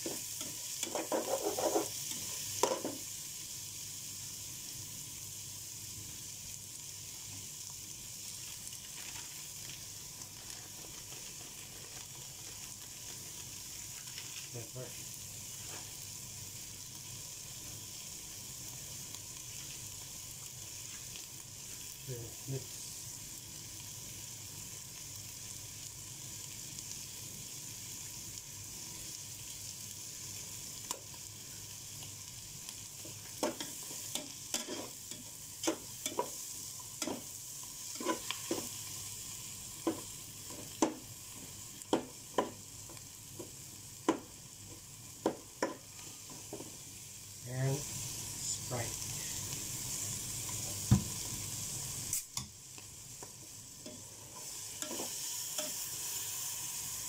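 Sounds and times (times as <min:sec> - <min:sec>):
shrimp sizzling in a pot: 0:00.0 - 0:57.0.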